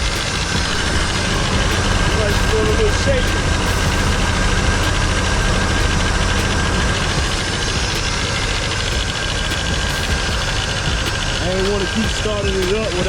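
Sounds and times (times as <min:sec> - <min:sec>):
pickup engine idling: 0:00.0 - 0:13.0
thin high whine: 0:00.0 - 0:13.0.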